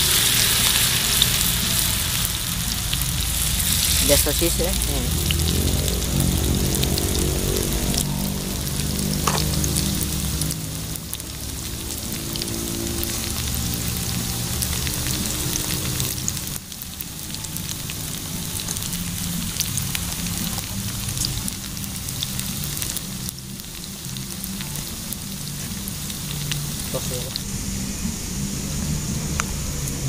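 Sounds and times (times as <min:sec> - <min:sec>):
fritters sizzling in hot oil: 0:00.0 - 0:30.0.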